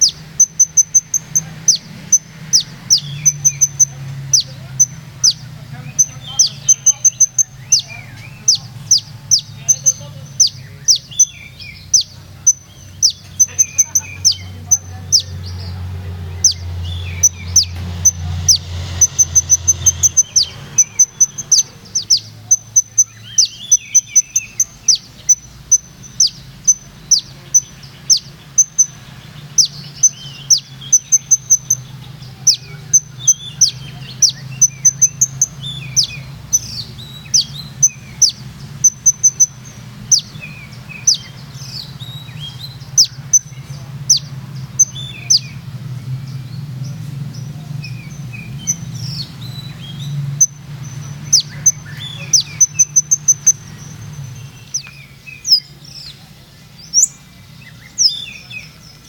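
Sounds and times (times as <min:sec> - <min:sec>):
bird singing high whistles and trills: 0:00.0 - 0:15.3, 0:16.4 - 0:45.6, 0:47.8 - 0:56.2, 0:56.8 - 0:59.0.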